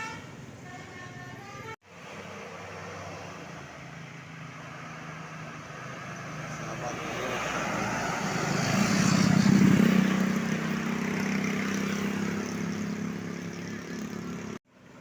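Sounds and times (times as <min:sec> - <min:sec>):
bus engine passing: 0:00.3 - 0:15.0.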